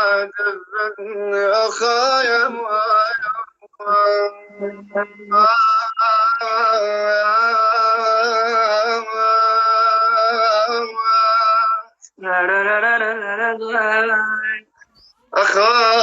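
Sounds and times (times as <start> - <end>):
solo voice singing wordless lament: 0.0 - 14.7, 15.4 - 16.0.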